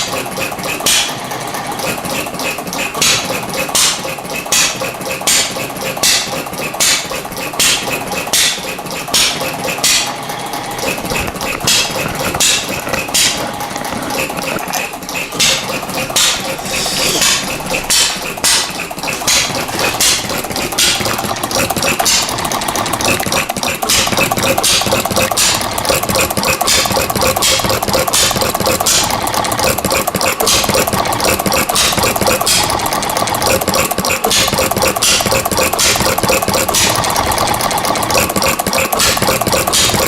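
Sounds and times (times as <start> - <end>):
model engine clattering: 0.0 - 40.0.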